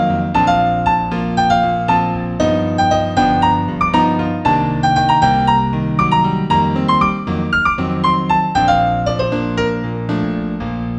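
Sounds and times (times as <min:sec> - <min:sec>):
gentle piano melody: 0:00.0 - 0:10.9.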